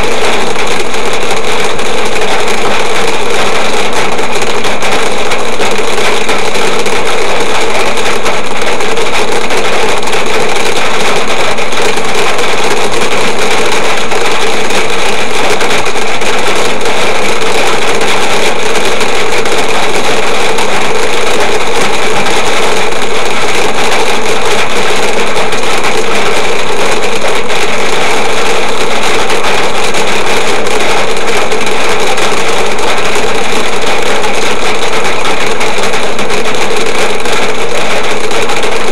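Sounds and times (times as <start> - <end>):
heavy rain drumming on car roof: 0.0 - 38.9.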